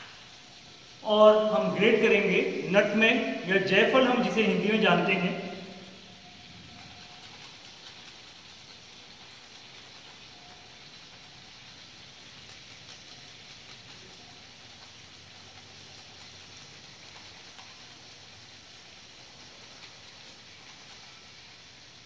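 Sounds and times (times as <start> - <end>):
butter and potato sizzling in pan: 0.0 - 1.0, 4.6 - 22.0.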